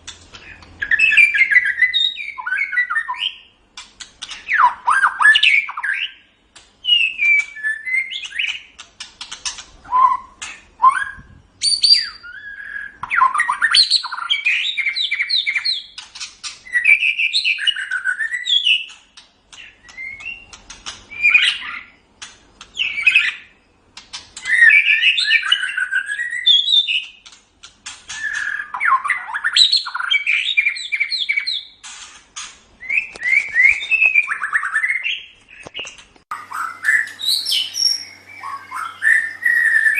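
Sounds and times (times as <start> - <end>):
songbird whistling and trilling: 0.4 - 3.5, 4.2 - 8.8, 9.8 - 22.0, 22.7 - 23.6, 24.4 - 27.2, 28.1 - 31.8, 32.8 - 39.9.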